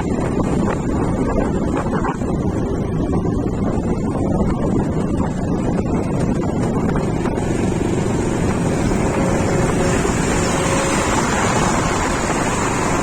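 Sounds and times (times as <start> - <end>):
tractor engine running: 0.0 - 13.0
wind on microphone: 0.0 - 13.0.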